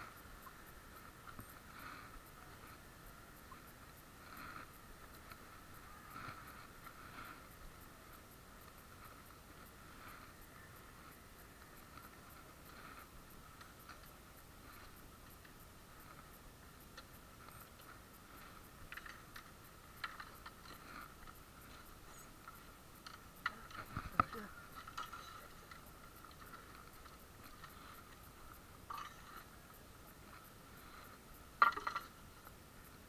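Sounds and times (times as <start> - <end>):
faint steady whine: 0.0 - 33.0.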